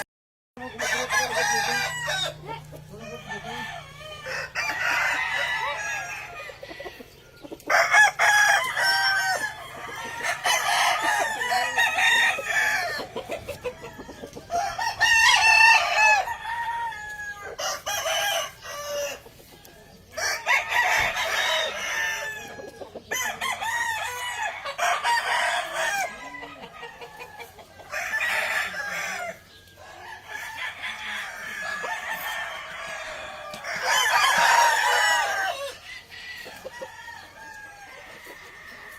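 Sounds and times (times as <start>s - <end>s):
hens clucking: 0.6s - 38.9s
roosters crowing: 0.6s - 38.9s.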